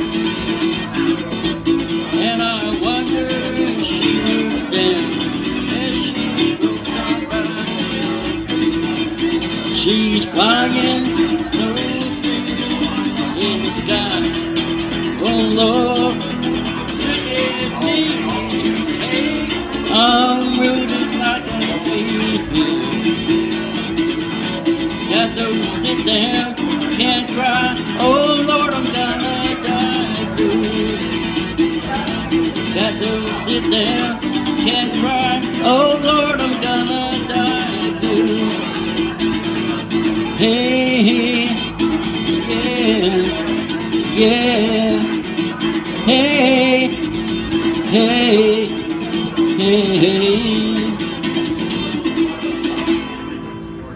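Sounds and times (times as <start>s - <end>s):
acoustic guitar strumming: 0.0s - 53.9s.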